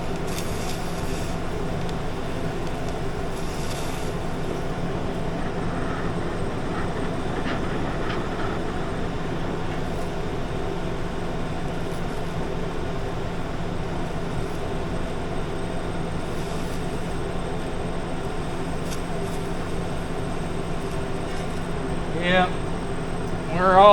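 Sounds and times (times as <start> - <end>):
cutting torch rushing: 0.0 - 23.9
low hum: 0.0 - 23.9.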